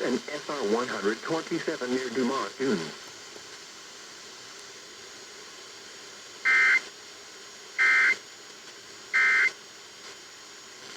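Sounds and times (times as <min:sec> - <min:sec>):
broadcast hiss: 0:00.0 - 0:10.9.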